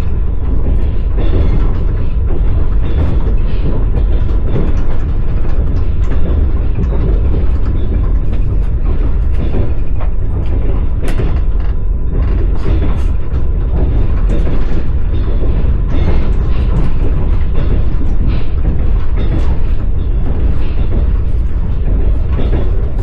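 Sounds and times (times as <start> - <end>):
train rumbling on track: 0.0 - 23.0
wheels clicking on rails: 0.0 - 23.0.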